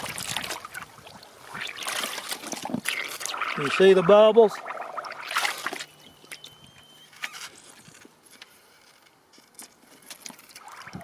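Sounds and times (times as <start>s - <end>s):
small clicks and drips in water: 0.0s - 6.9s, 7.9s - 11.0s.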